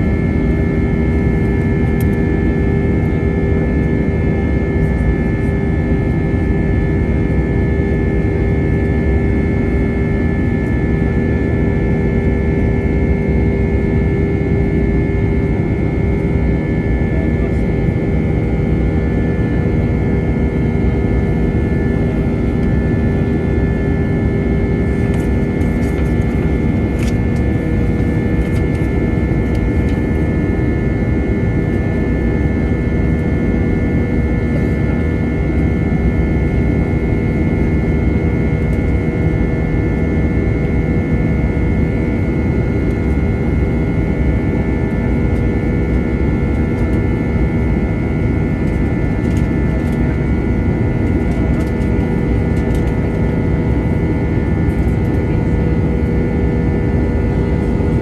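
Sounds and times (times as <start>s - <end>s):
jet engines in cabin: 0.0s - 58.0s.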